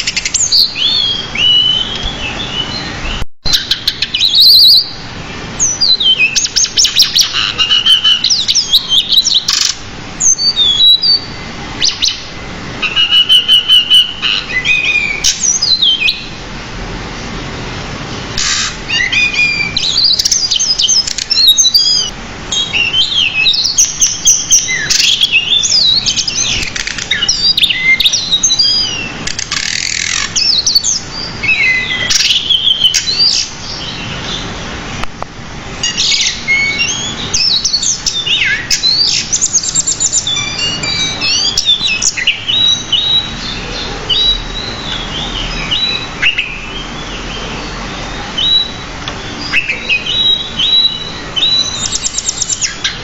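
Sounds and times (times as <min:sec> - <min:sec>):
bird singing whistles and chirps: 0:00.0 - 0:05.0, 0:05.6 - 0:16.4, 0:18.9 - 0:34.4, 0:35.8 - 0:53.0.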